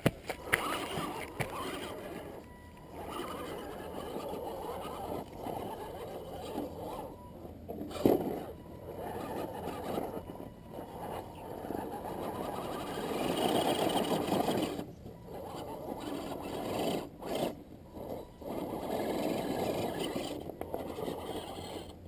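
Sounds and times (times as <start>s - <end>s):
toy car electric motor running: 0.4s - 22.0s.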